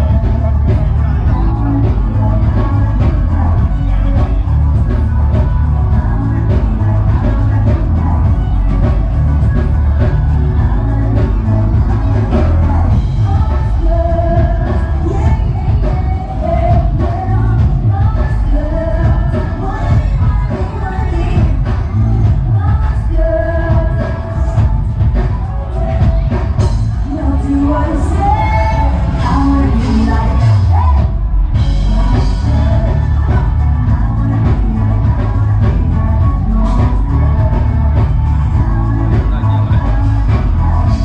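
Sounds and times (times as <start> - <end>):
loud pop music with singing: 0.0 - 41.0.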